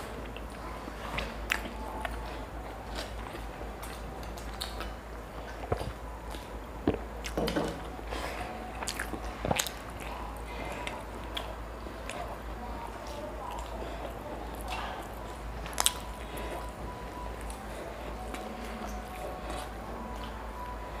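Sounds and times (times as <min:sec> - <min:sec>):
people chewing food: 0:00.0 - 0:21.0
steady low hum: 0:00.0 - 0:21.0.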